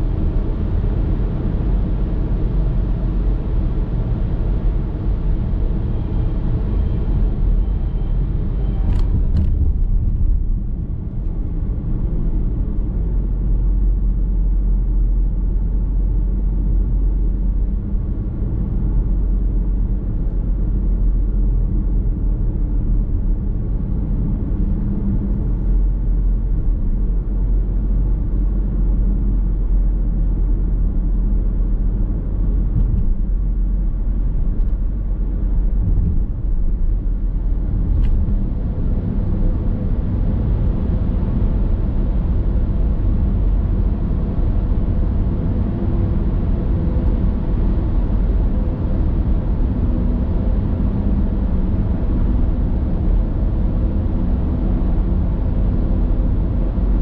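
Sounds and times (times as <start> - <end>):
car interior road noise: 0.0 - 57.0.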